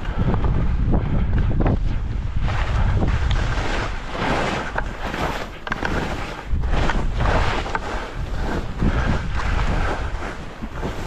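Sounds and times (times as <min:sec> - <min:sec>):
wind rushing over microphone: 0:00.0 - 0:11.0
skis sliding on snow: 0:01.6 - 0:11.0.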